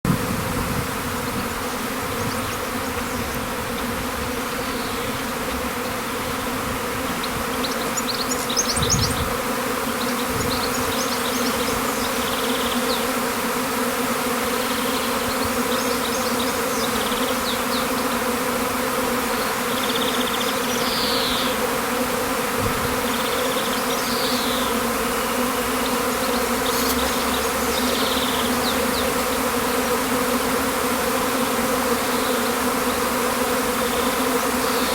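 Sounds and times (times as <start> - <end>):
bee swarm humming: 0.1 - 34.9.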